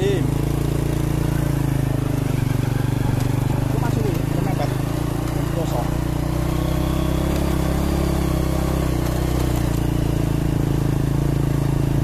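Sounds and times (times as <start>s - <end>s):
motorcycle engine under load: 0.0s - 12.0s.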